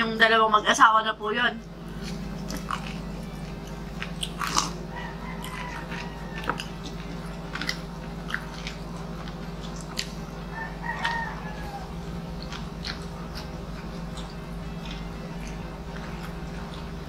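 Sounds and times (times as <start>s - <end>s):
steady low hum: 0.0s - 17.0s
chewing and lip smacks: 1.9s - 17.0s
crunching of crispy food: 1.9s - 17.0s.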